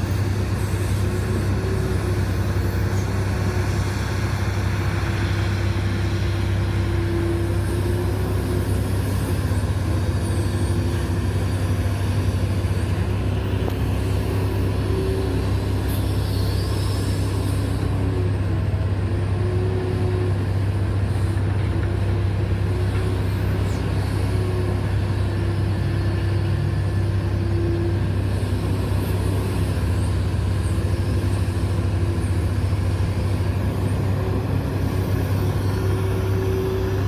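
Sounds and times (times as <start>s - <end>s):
excavator diesel engine drone: 0.0s - 37.0s.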